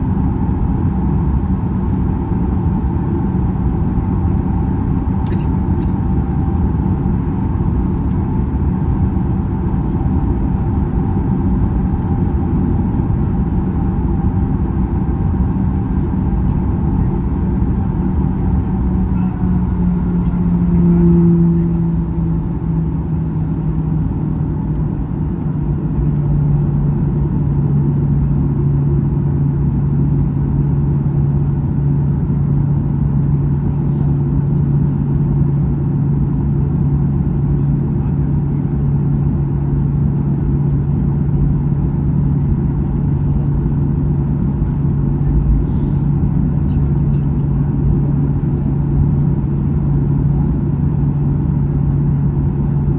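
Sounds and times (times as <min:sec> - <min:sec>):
jet engine cabin hum: 0:00.0 - 0:52.9.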